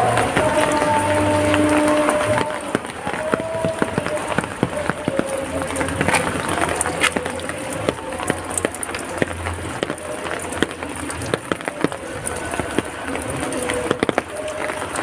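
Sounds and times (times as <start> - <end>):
drops splatting on hard surfaces: 0.0 - 15.0
heavy rain: 0.0 - 15.0.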